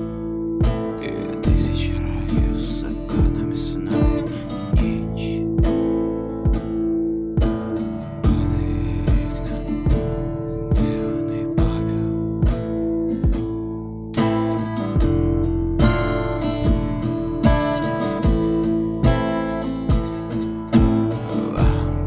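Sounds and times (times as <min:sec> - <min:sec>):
strummed acoustic guitar: 0:00.0 - 0:22.0
steady drum beat: 0:00.6 - 0:22.0.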